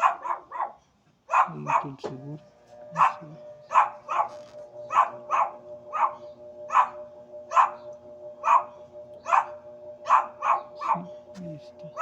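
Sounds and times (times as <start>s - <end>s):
dog barking: 0.0s - 2.0s, 3.0s - 11.1s
steady low hum: 1.5s - 12.0s.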